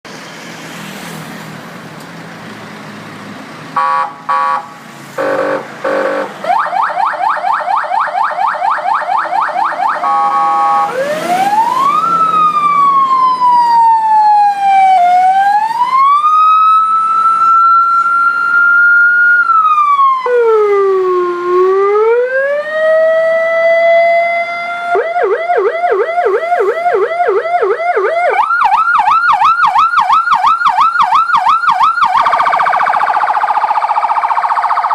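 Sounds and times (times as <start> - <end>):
electronic siren: 3.8 - 34.9
siren horn blasts: 3.8 - 34.9.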